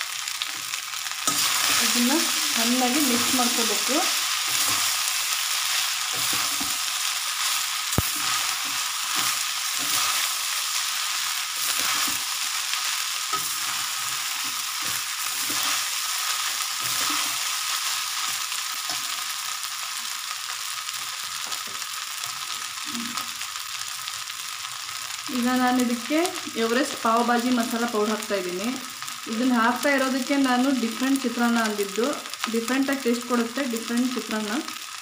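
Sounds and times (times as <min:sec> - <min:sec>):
food sizzling in pan: 0:00.0 - 0:35.0.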